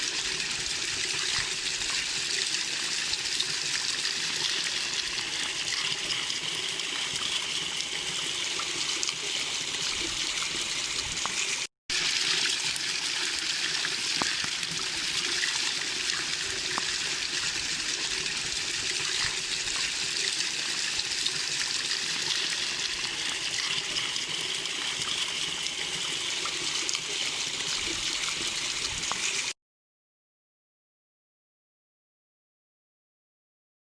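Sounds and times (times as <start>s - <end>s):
small waterfall splashing: 0.0s - 29.6s.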